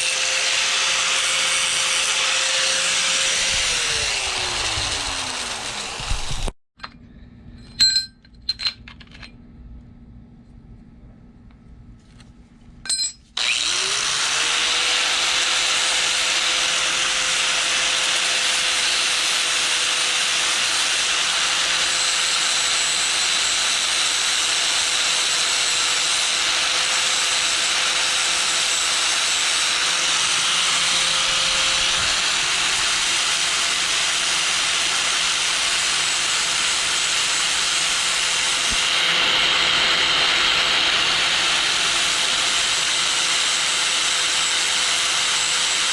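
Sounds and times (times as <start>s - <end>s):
power tool whining: 0.0s - 6.6s, 13.4s - 45.9s.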